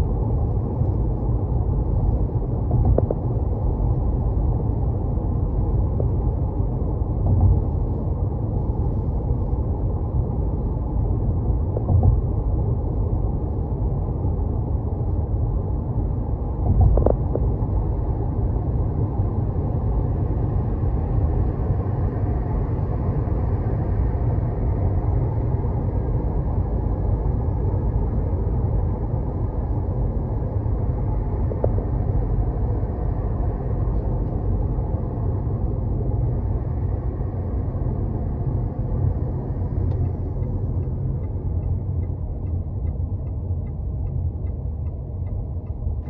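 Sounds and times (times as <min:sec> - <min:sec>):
car driving rumble: 0:00.0 - 0:46.0.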